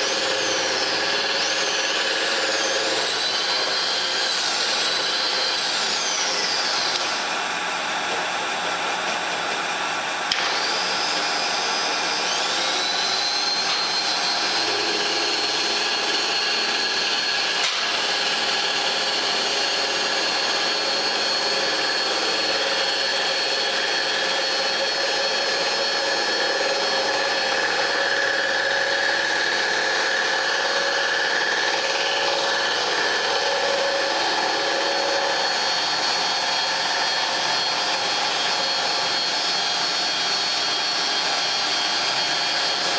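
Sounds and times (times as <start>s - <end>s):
high machine whine: 0.0s - 42.9s
milling machine running: 0.0s - 42.9s.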